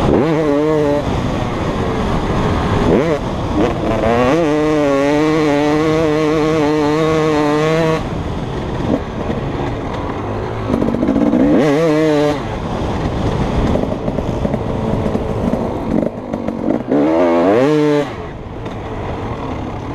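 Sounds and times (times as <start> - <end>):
two-stroke motocross engine revving: 0.0 - 19.9.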